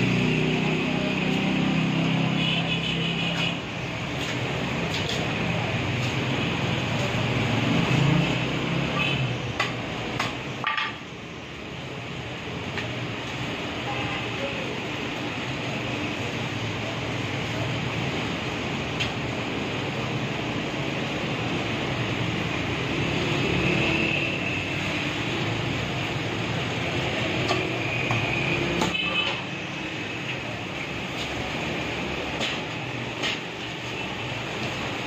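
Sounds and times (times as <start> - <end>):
busy shop and street noise: 0.0 - 35.0.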